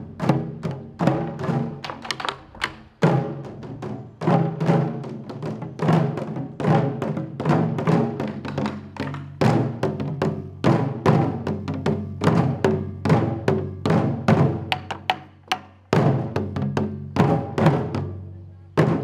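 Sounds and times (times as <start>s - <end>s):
taiko drums beating: 0.0s - 19.0s.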